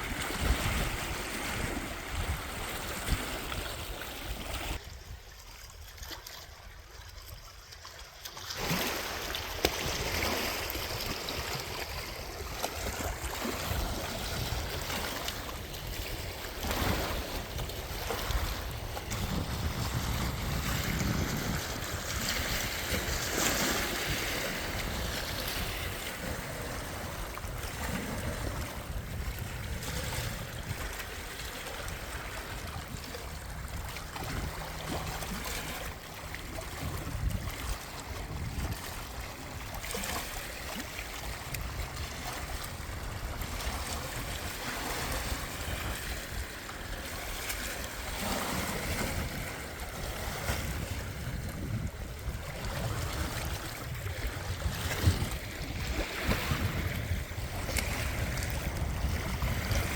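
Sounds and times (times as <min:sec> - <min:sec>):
wind buffeting microphone: 0:00.0 - 0:05.3, 0:09.8 - 0:39.8, 0:40.7 - 0:59.9
wind over water: 0:00.0 - 0:59.9.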